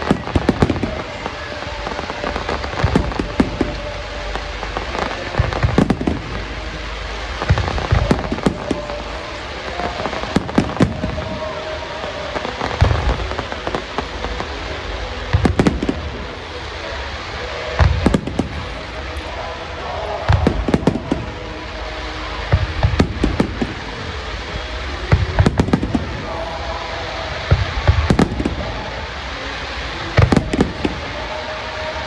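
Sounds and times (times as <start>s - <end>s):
continuous noisy hiss: 0.0s - 32.0s
fireworks bursting: 0.0s - 32.0s.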